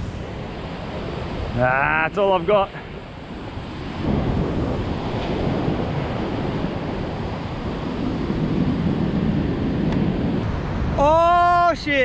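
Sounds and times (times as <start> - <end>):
surf washing onto beach: 0.0 - 12.0
wind noise on microphone: 0.0 - 12.0.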